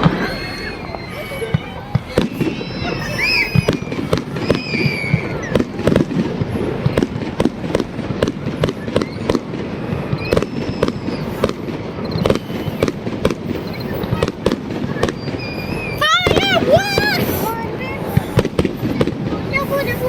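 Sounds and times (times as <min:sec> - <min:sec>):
fireworks bangs and cracks: 0:00.0 - 0:20.0.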